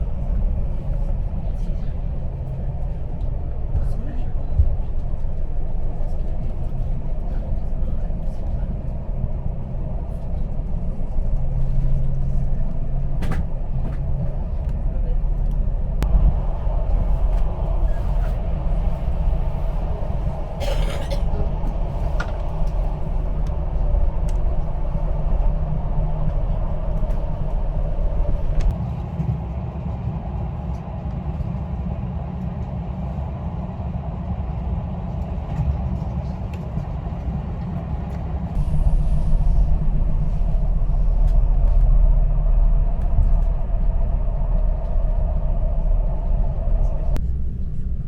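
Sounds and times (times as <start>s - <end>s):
train rumbling on track: 0.0s - 48.0s.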